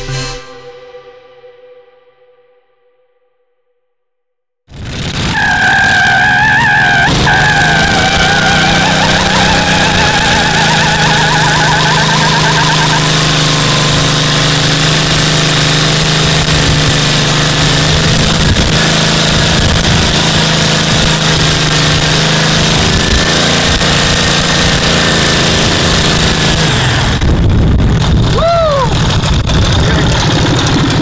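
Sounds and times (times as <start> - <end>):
mini bike engine running hard: 4.7 - 31.0.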